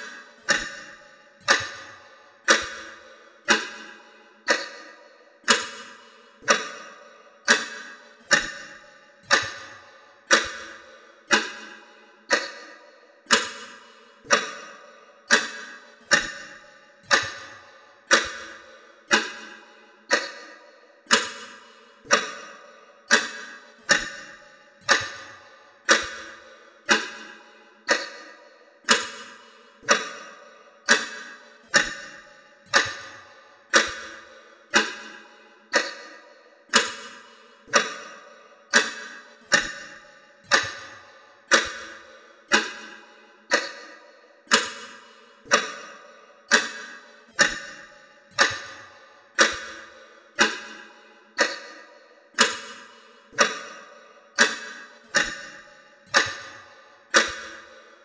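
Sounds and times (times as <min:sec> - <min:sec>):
clock ticking: 0:00.4 - 0:58.0.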